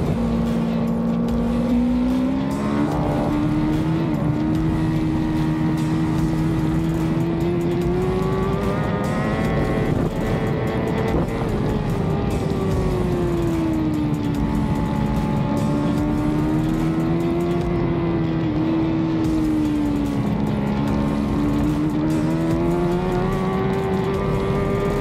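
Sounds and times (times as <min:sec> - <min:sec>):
racing motorcycle engine revving: 0:00.0 - 0:25.0.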